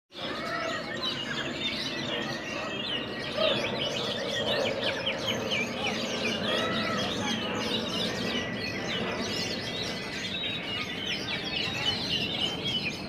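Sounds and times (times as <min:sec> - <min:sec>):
chorus of birds singing: 0:00.1 - 0:13.0
low background hubbub: 0:00.2 - 0:13.0.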